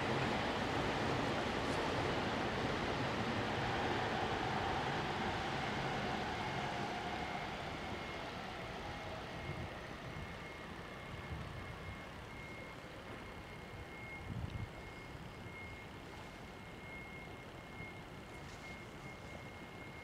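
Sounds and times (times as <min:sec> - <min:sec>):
train rumbling: 0:00.0 - 0:20.0
faint high beep: 0:03.9 - 0:20.0.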